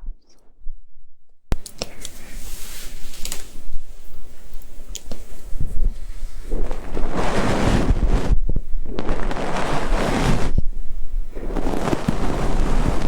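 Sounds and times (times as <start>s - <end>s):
soft swishing on microphone: 1.9s - 13.0s.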